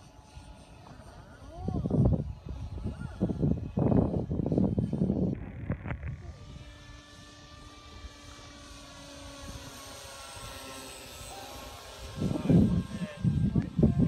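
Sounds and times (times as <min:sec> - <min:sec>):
model plane motor drone: 0:00.0 - 0:14.0.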